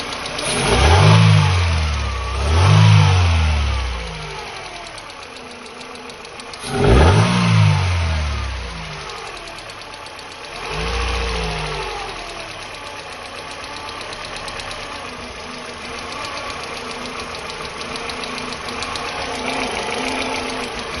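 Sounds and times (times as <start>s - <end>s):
car engine revving and idling: 0.0s - 21.0s
valve train ticking clatter: 0.0s - 21.0s.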